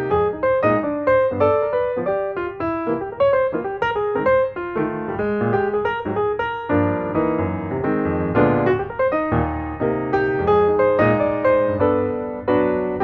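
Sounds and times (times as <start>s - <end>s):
piano playing quick run: 0.0s - 13.0s.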